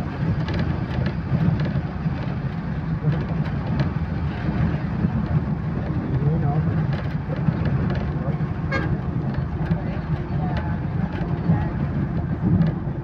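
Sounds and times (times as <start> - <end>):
bus engine and tyres droning: 0.0 - 13.0.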